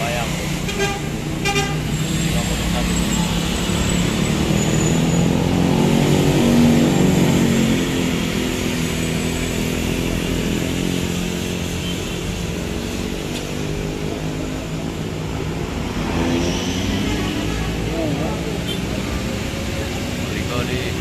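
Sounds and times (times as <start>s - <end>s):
minibus engine passing: 0.0s - 21.0s
tyres hissing on wet road: 0.0s - 21.0s.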